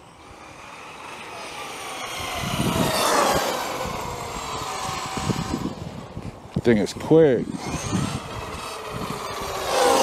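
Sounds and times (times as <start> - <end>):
electric rc truck whining past: 0.0 - 10.0.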